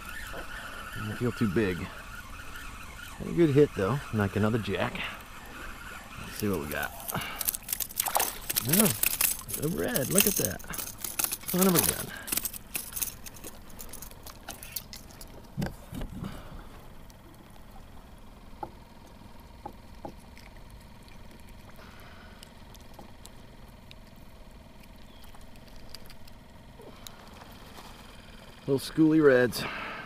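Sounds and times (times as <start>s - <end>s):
water lapping around kayak: 0.0s - 28.6s.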